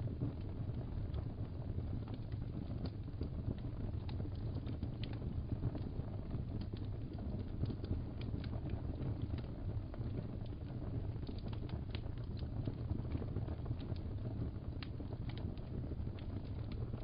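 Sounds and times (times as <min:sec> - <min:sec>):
fire crackles and pops: 0:00.0 - 0:17.0
fireplace fire rumbling: 0:00.0 - 0:17.0.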